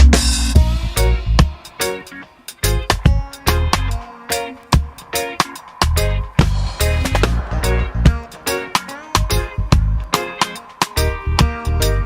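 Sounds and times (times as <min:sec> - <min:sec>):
upbeat funk reggae music: 0:00.0 - 0:12.0.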